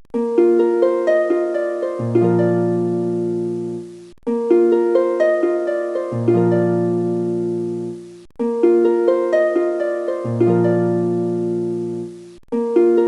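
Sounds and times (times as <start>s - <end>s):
harp-like plucked notes: 0.2s - 13.0s.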